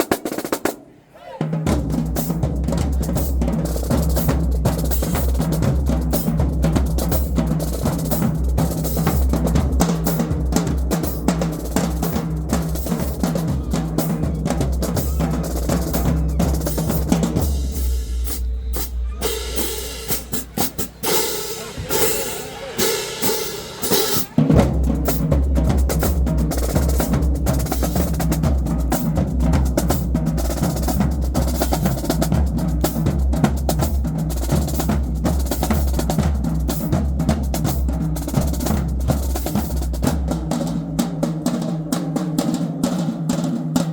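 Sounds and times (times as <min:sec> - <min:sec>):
snare drums: 0:00.0 - 0:43.9
tenor drums: 0:00.0 - 0:43.9
bass drums: 0:01.6 - 0:42.7.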